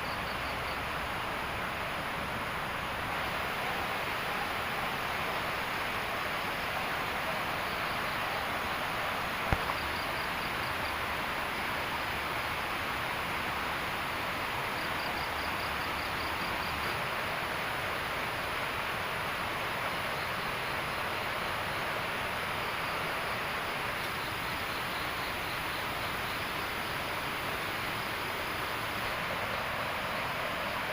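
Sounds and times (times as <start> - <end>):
faint insect trills: 0.0 - 30.9
steady outdoor hiss: 0.0 - 30.9.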